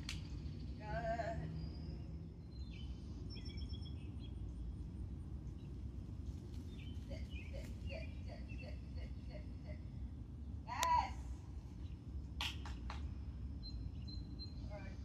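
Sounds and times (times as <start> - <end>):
birds chirping: 0.0 - 15.0
low background hum: 0.0 - 15.0.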